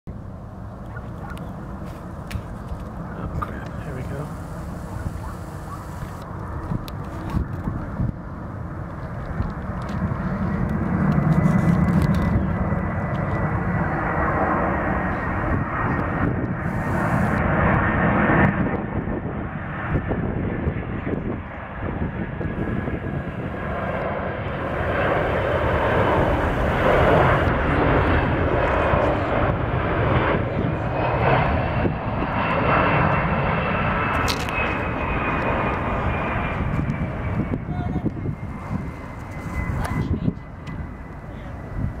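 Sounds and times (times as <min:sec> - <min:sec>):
faint high jet whine: 0:00.1 - 0:19.8, 0:21.0 - 0:42.0
jet engine roar: 0:00.1 - 0:42.0.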